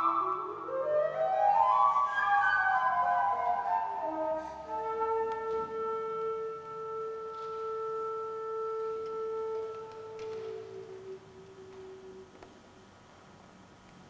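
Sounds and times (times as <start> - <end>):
woodwind quintet playing: 0.0 - 12.5.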